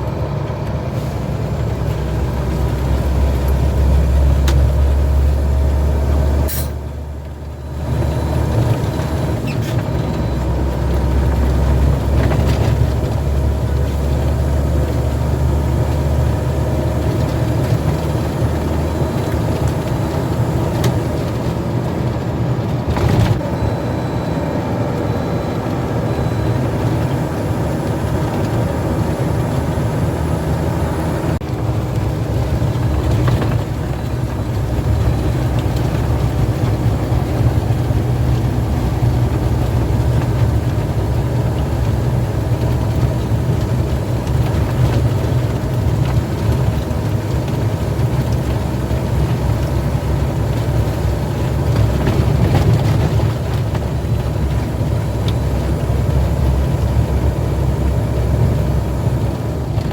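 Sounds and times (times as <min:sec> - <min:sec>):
heavy truck engine droning: 0:00.0 - 0:59.9.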